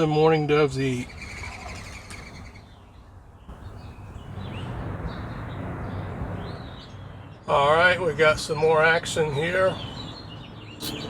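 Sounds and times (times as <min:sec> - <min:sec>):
outdoor background rumble: 0:00.0 - 0:11.0
small birds chirping: 0:00.0 - 0:11.0.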